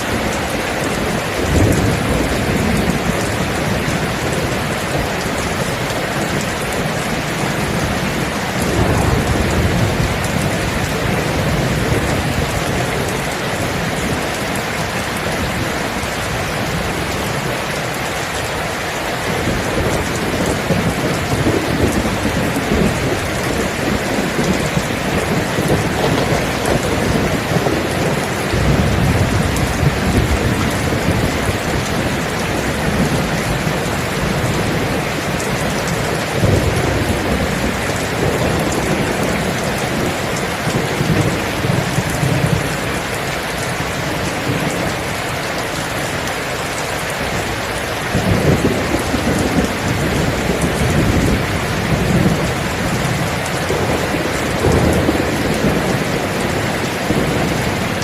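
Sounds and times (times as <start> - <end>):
heavy rain: 0.0 - 58.0
thunder rumbling: 0.0 - 58.0.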